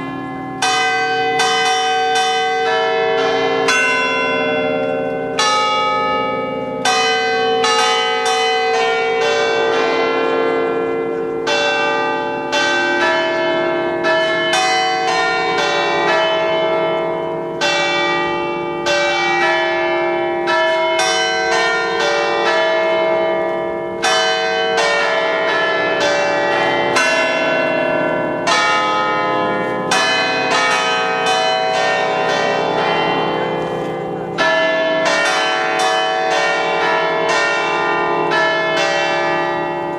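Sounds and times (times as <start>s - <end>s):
church bells playing a tune: 0.0s - 39.9s.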